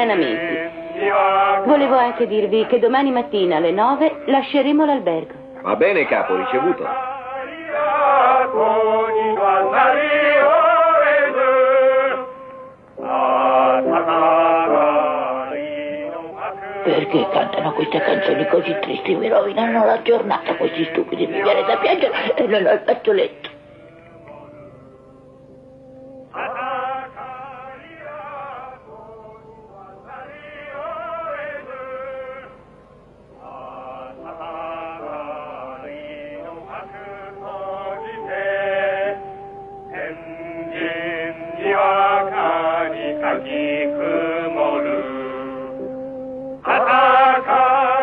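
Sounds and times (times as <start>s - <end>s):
group of voices singing: 0.0s - 24.9s, 26.3s - 32.7s, 33.4s - 48.0s.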